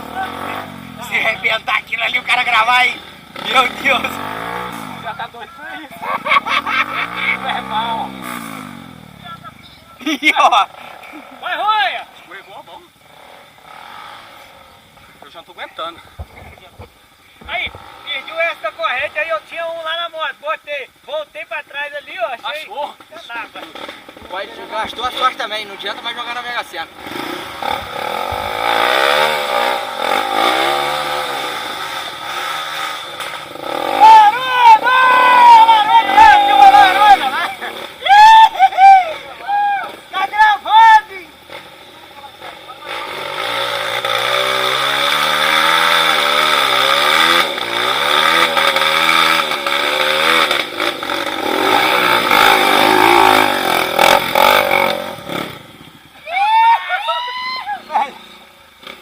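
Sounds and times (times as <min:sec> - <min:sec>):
motorcycle engine revving: 0:00.0 - 0:15.9, 0:17.4 - 0:19.4, 0:23.0 - 0:40.5, 0:41.1 - 0:56.2, 0:57.9 - 0:59.0.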